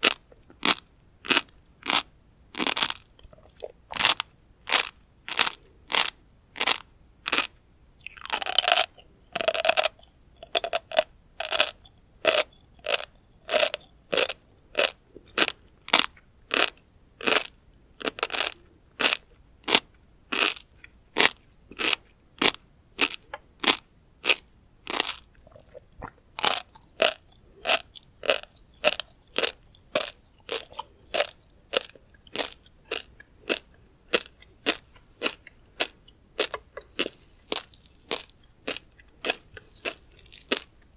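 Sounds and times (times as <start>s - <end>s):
close chewing with crunches: 0.0s - 40.9s.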